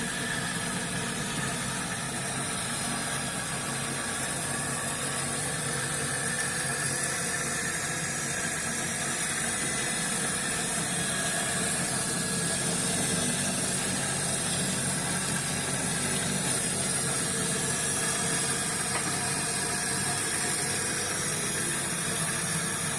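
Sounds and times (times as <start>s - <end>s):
lathe motor humming: 0.0s - 22.9s.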